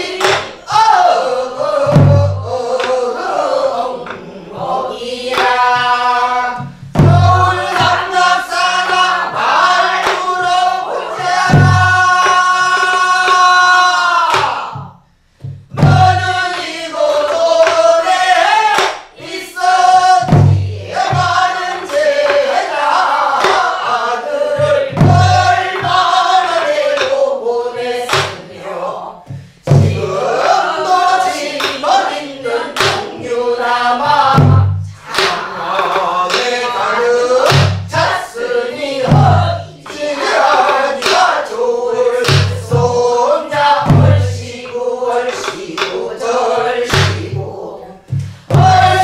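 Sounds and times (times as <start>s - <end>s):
barrel drum beat: 0.0s - 27.2s, 29.2s - 49.0s
group singing along: 0.0s - 49.0s.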